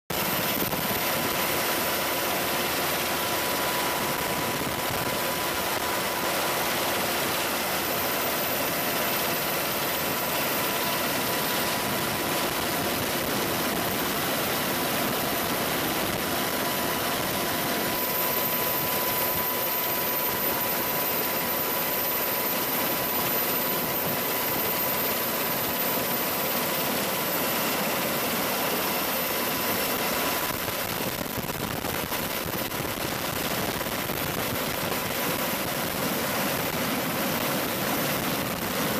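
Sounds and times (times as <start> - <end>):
helicopter in flight: 0.1 - 38.9.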